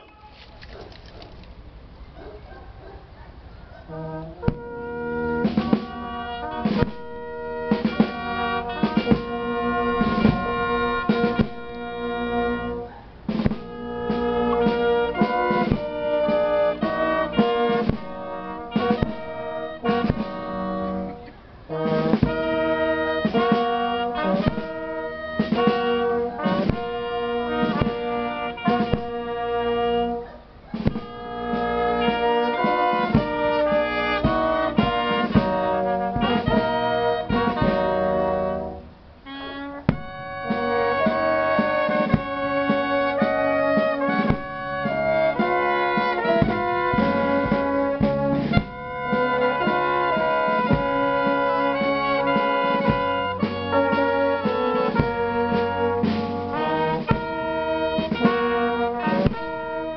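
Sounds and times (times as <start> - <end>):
brass band playing chords: 0.0 - 2.0, 3.8 - 59.9
drum strokes: 4.4 - 59.9.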